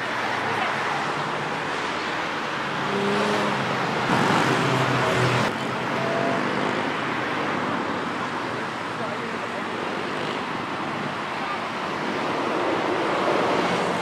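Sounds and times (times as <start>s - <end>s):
outdoor background rush: 0.0s - 14.0s.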